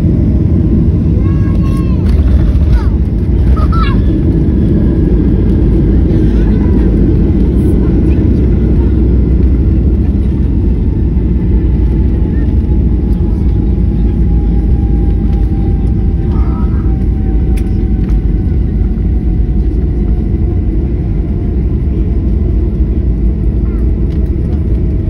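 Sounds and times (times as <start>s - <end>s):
engine whine falling in pitch: 0.0s - 25.0s
jet airliner cabin rumble: 0.0s - 25.0s.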